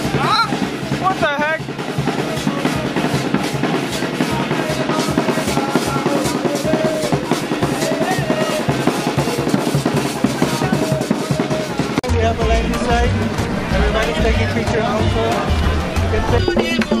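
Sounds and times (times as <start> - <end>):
group playing hand drums: 0.0 - 17.0.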